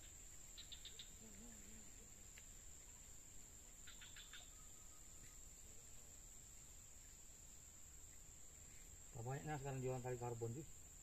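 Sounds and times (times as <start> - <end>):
crickets droning: 0.0 - 11.0
quick cricket chirps: 0.0 - 11.0.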